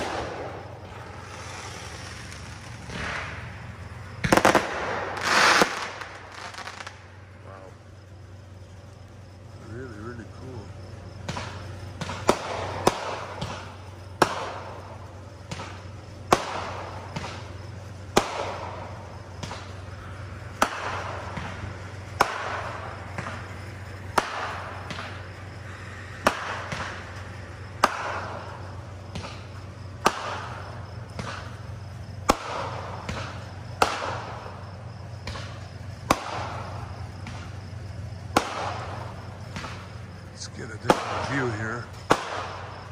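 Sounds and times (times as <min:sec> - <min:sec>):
distant fireworks bangs: 0:00.0 - 0:42.9.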